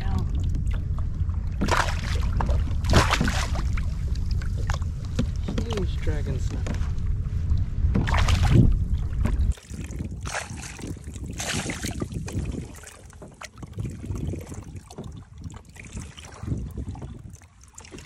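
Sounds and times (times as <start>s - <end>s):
water splashing and lapping: 0.0s - 18.0s
wind rumbling on microphone: 0.0s - 18.0s.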